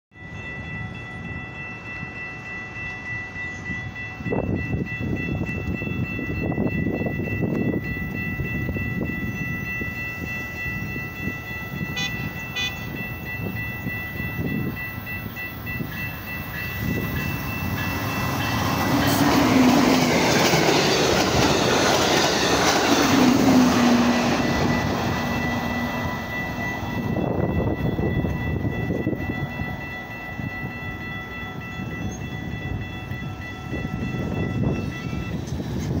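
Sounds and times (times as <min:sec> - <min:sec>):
crossing warning bell ringing: 0:00.1 - 0:36.0
train wheels rumbling and clattering: 0:00.5 - 0:36.0.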